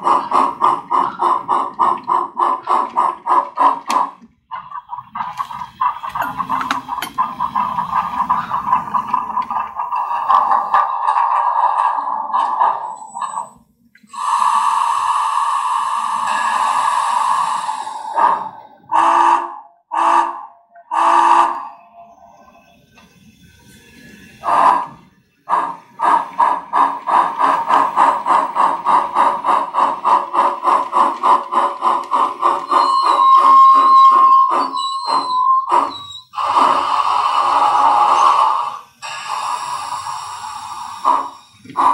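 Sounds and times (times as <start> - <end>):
simulated steam locomotive chuffs: 0.0 - 41.9.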